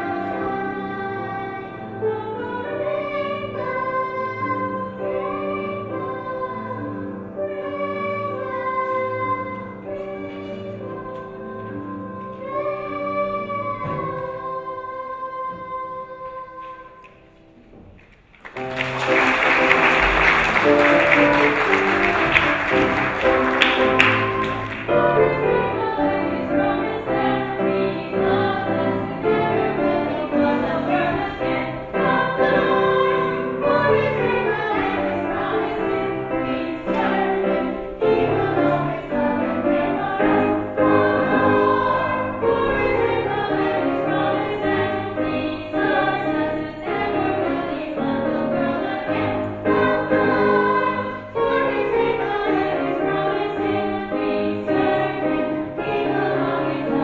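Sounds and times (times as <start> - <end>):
children's choir singing: 0.0 - 17.8, 18.4 - 57.0.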